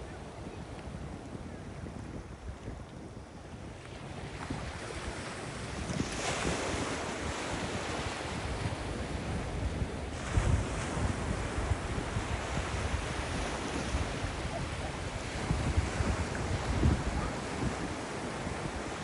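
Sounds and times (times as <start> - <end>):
waves breaking: 0.0 - 19.0
wind buffeting microphone: 0.0 - 19.0.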